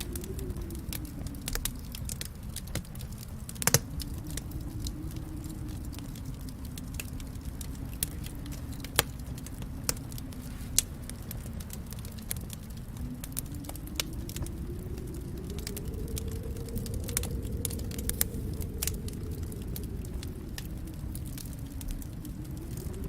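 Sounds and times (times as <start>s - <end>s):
low rumble of flames: 0.0s - 23.0s
wood fire pops and snaps: 0.0s - 23.0s.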